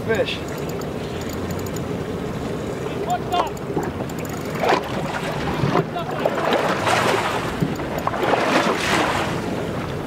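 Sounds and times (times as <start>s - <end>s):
choppy sea water: 0.0s - 10.0s.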